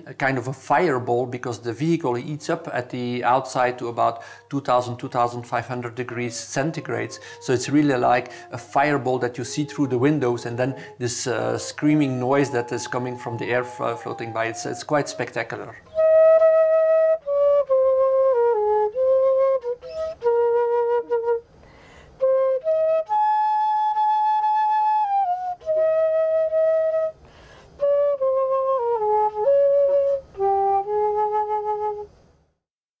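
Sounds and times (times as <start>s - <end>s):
solo flute melody: 0.4s - 32.1s.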